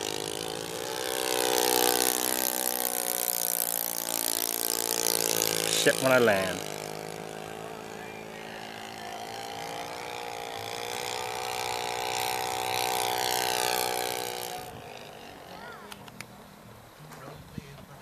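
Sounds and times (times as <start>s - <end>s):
model airplane engine passing: 0.0s - 16.6s.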